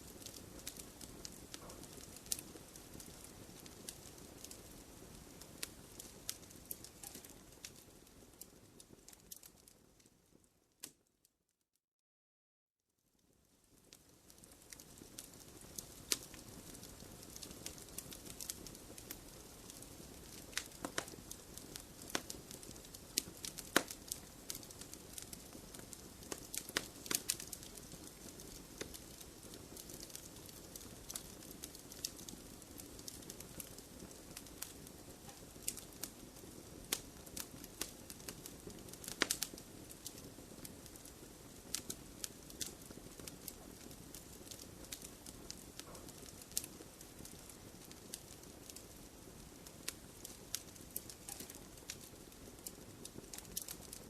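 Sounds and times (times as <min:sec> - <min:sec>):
wood fire crackling: 0:00.0 - 0:11.1, 0:13.2 - 0:54.0.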